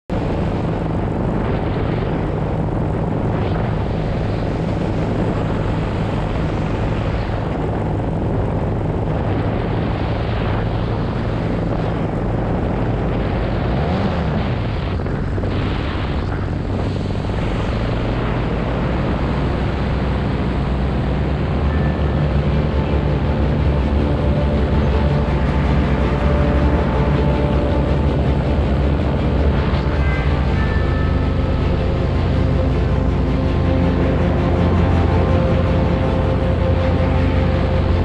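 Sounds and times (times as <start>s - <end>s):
paramotor engine droning: 0.1s - 38.0s.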